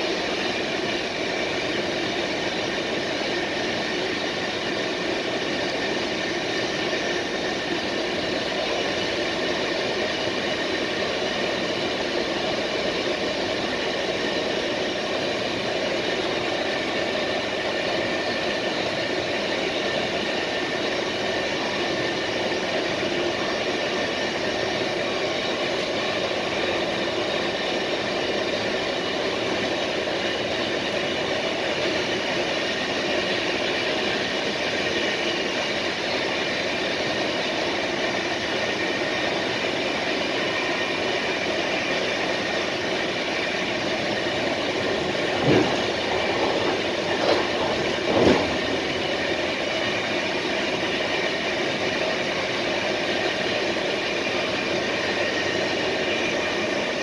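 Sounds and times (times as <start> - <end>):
train rolling noise: 0.0 - 57.0.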